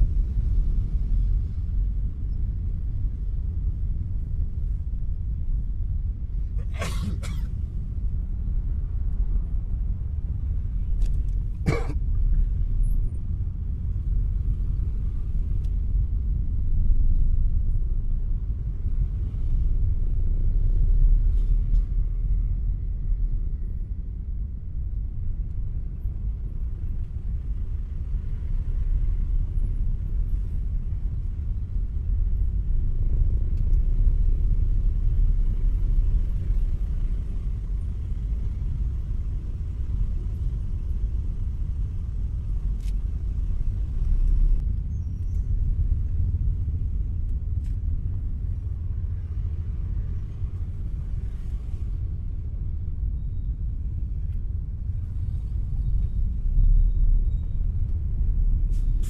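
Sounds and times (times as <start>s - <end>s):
traffic jam rumble: 0.0s - 59.0s.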